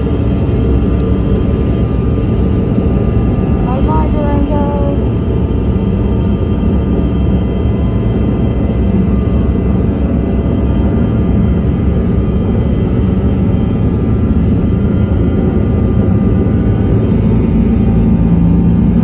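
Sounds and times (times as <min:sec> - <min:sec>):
jet engines rumbling with whine: 0:00.0 - 0:19.0.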